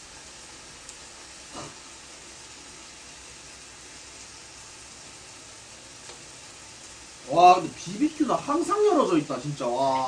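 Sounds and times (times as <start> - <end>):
meat sizzling on a grill: 0.0 - 10.0.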